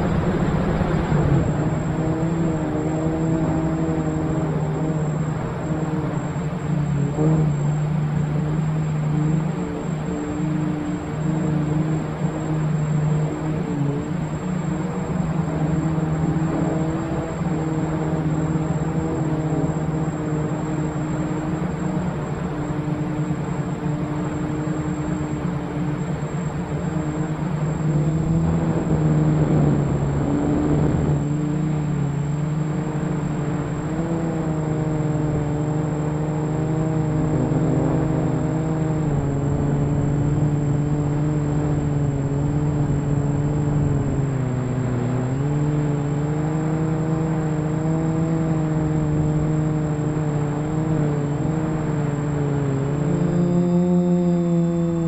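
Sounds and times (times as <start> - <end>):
quadcopter motors whirring: 0.0 - 55.0
thin high whine: 0.0 - 55.0.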